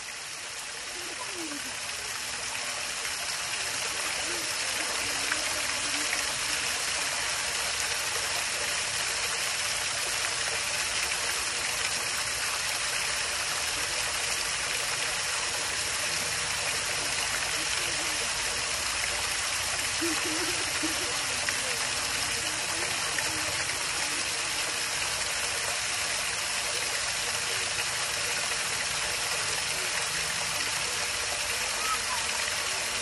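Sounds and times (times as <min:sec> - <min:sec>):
water fountain splashing: 0:00.0 - 0:33.0.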